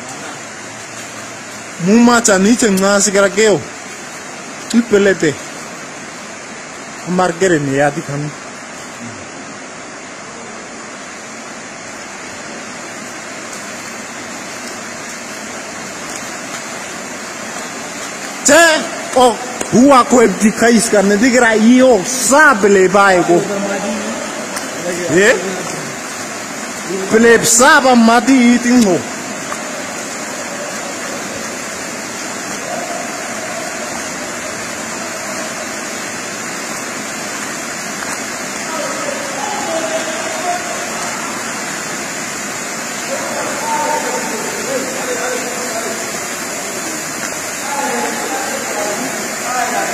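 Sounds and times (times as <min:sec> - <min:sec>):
water rushing: 0:00.0 - 0:49.9.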